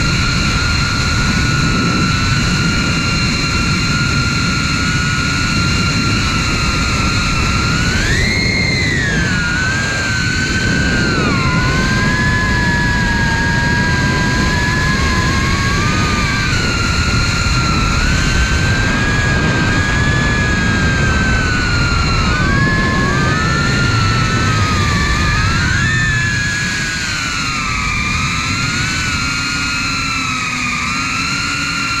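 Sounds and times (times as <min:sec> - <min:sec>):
drone motors whining: 0:00.0 - 0:32.0
wind rush on microphone: 0:00.0 - 0:32.0.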